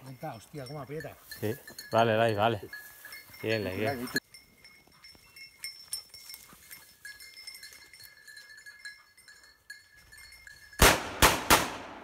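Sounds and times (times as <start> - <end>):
dog collar bell tinkling: 0.0 - 10.8.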